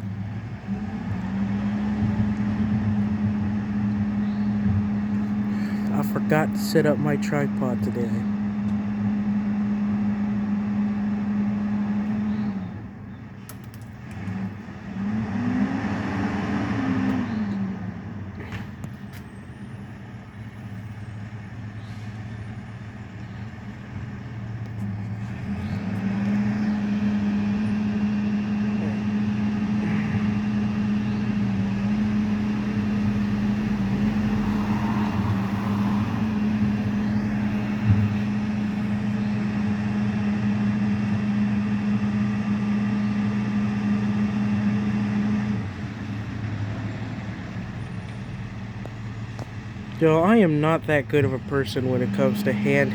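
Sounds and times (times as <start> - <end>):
garbage truck engine humming: 0.0 - 52.9.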